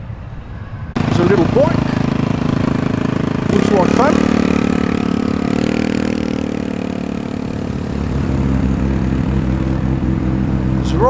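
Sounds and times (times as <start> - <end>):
deeper car engine: 0.9 - 11.0
motorcycle engine revving and pulling away: 1.0 - 11.0.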